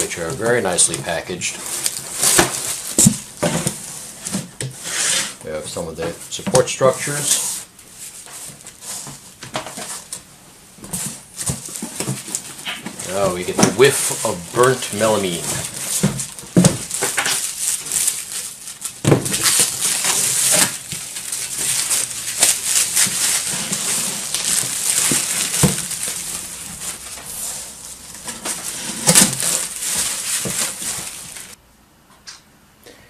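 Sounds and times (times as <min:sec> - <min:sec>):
plastic wrap crinkling: 0:00.0 - 0:04.4, 0:06.1 - 0:31.6.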